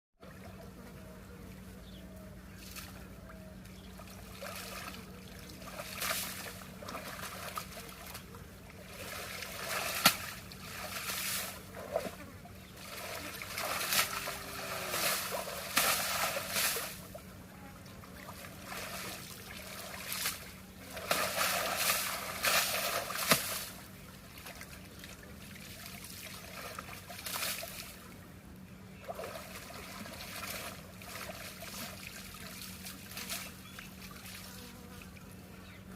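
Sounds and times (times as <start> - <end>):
steady low hum: 0.2 - 35.9
water splashing and trickling: 2.6 - 35.3.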